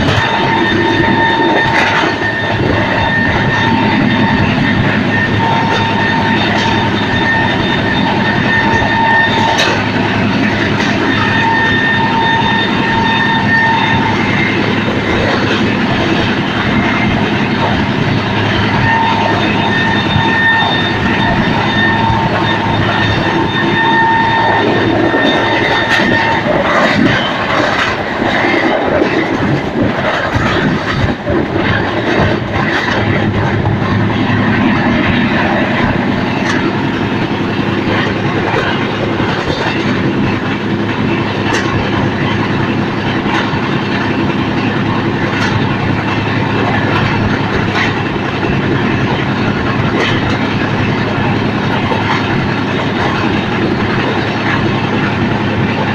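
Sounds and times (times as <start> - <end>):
high whine: 0.0 - 55.9
train rumble and rattle: 0.0 - 55.9.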